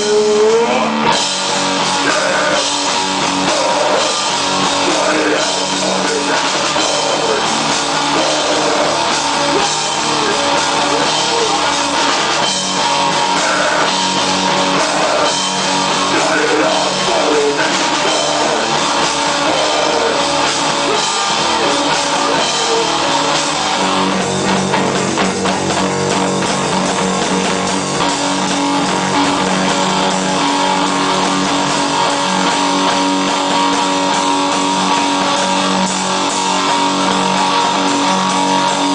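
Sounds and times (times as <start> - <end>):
rock music with guitar and drums: 0.0 - 38.9.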